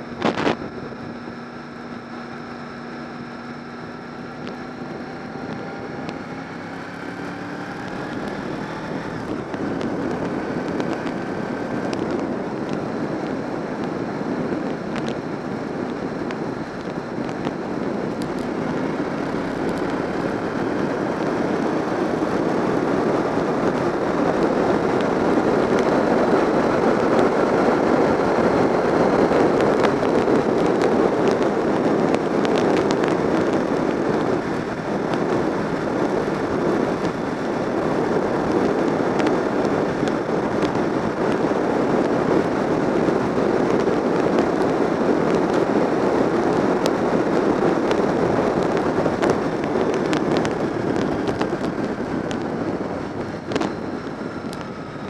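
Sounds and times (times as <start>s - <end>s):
motorcycle engine and wind rush: 0.0s - 55.0s.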